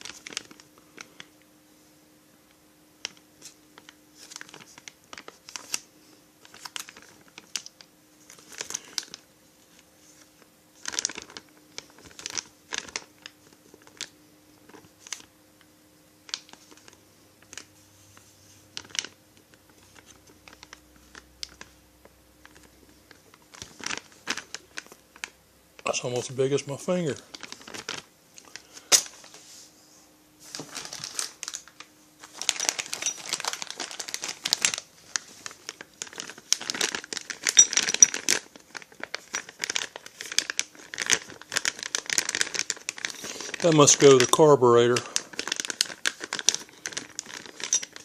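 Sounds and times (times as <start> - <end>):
plastic bags rustling: 0.0 - 1.3, 3.0 - 5.8, 6.4 - 15.3, 16.3 - 21.8, 22.4 - 48.0.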